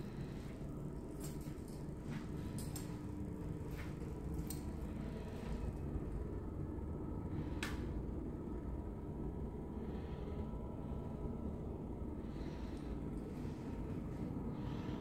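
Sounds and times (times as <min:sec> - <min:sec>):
low room rumble: 0:00.0 - 0:15.0.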